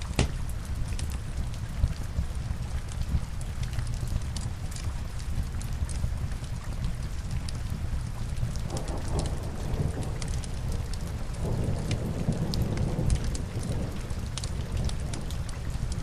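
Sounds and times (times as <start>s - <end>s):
burning logs crackling: 0.0s - 16.0s
steady rain: 0.0s - 16.0s.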